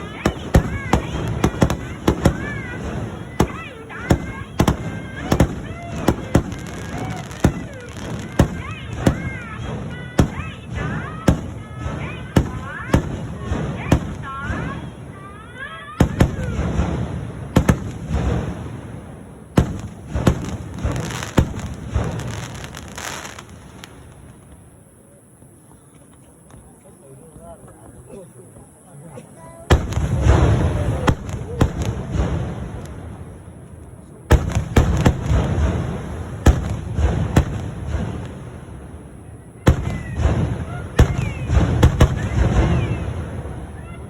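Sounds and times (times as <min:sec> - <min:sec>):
firework bangs: 0:00.0 - 0:25.6, 0:29.6 - 0:44.0
firework crackling: 0:00.0 - 0:26.8, 0:29.6 - 0:44.0.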